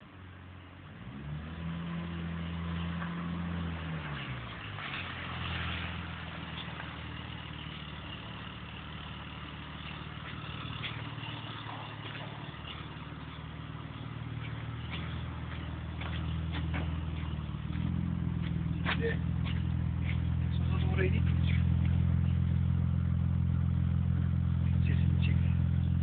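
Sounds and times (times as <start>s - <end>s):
car engine revving: 0.8s - 26.0s.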